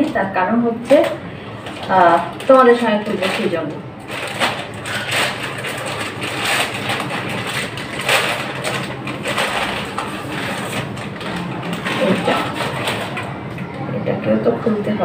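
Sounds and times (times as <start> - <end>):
plastic mailer bag crinkling: 0.9 - 13.4.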